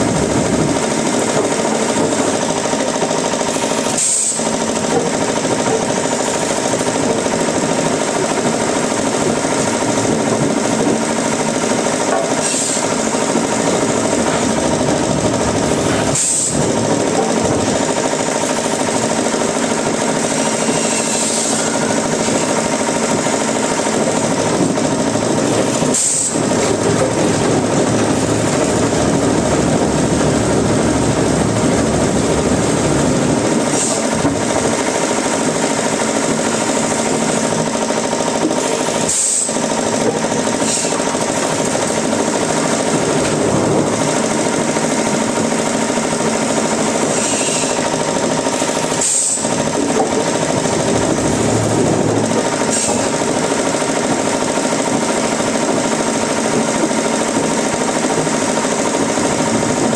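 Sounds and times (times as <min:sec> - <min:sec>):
wood-processing machinery running: 0:00.0 - 0:59.9.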